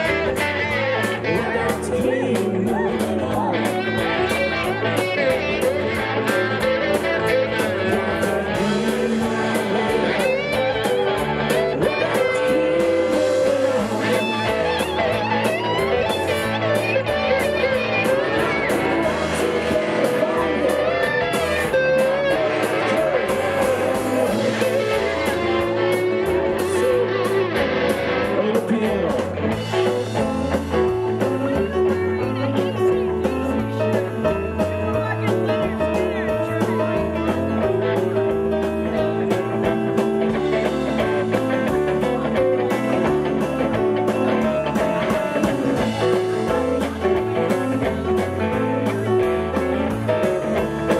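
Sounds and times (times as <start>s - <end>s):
electric guitar lead lines: 0.0s - 50.9s
live rock band playing: 0.0s - 50.9s.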